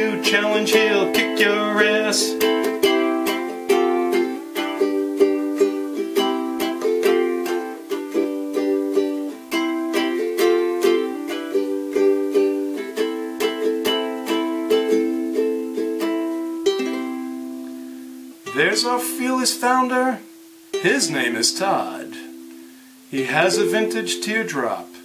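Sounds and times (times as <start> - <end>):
ukulele strumming chords: 0.0 - 25.0.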